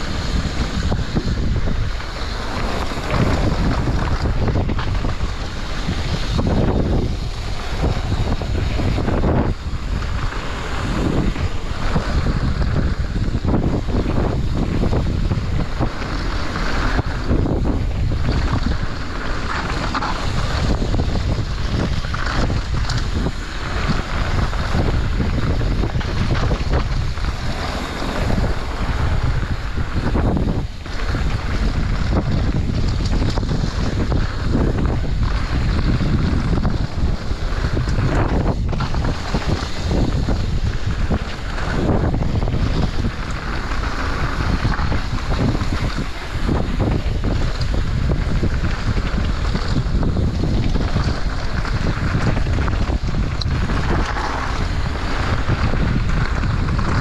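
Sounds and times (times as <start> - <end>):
bike rattling over bumps: 0.0 - 57.0
tyre roar on dirt: 0.0 - 57.0
wind rumble on microphone: 0.0 - 57.0.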